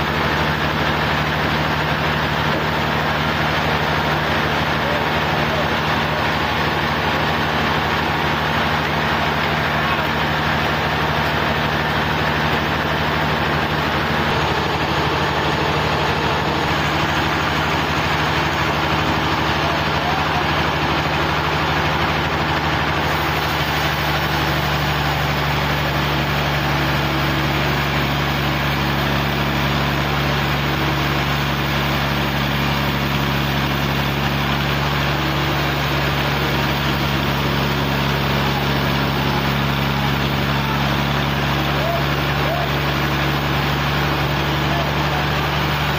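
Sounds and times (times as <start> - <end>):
large engine running: 0.0 - 45.9.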